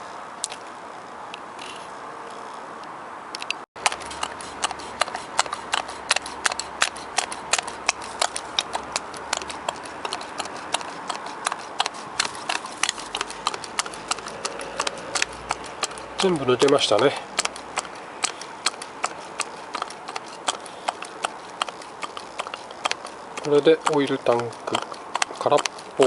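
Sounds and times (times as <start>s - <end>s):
oil pump clicking: 3.4s - 26.0s.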